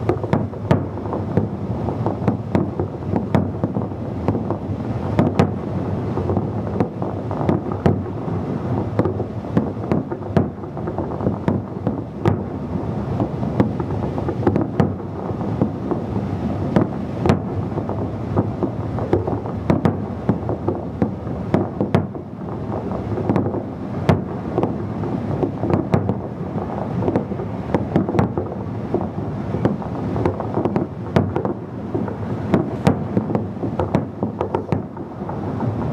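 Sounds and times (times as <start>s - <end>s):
fireworks bangs and pops: 0.0s - 35.9s
wind noise on microphone: 0.0s - 35.9s.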